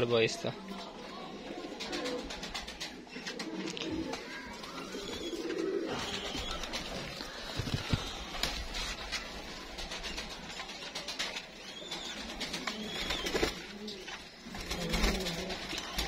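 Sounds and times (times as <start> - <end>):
pigeons cooing softly: 0.3 - 16.0.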